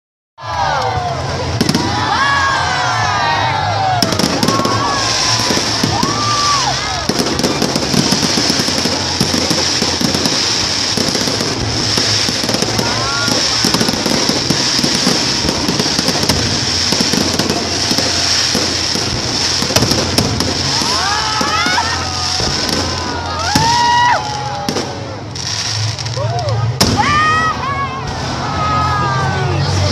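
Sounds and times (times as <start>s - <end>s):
fireworks bangs and crackles: 0.4s - 29.9s.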